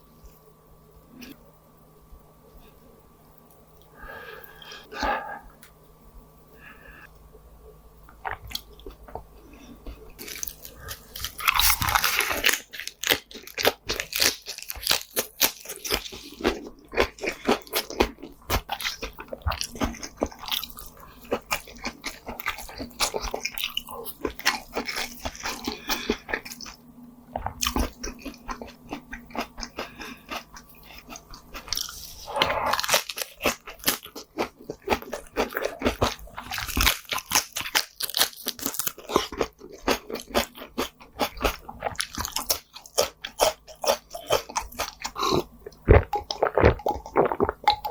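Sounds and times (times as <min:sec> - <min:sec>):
person chewing crunchy food: 0:08.1 - 0:47.9.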